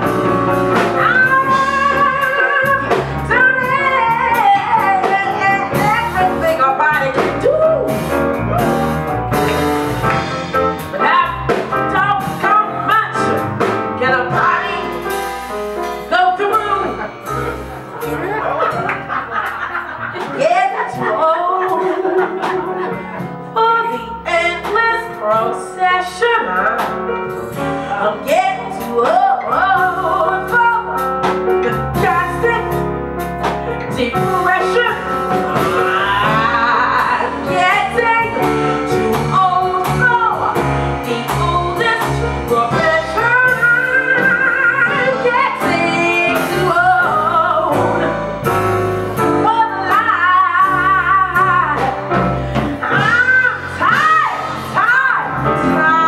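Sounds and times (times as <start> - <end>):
woman singing: 0.0 - 8.4, 10.8 - 17.4, 20.2 - 33.0, 33.7 - 48.3, 49.2 - 56.0
electric bass: 0.0 - 21.8, 22.5 - 56.0
piano: 0.0 - 56.0.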